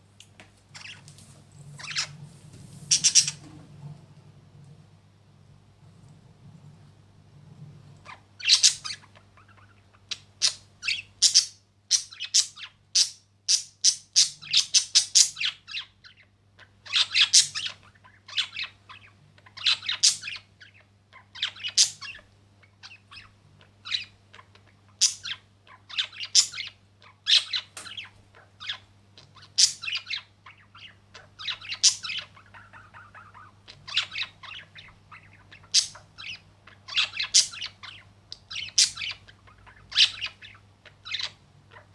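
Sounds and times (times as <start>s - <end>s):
faint low hum: 0.0s - 41.9s
birds chirping and squawking: 0.7s - 3.6s, 8.0s - 41.9s.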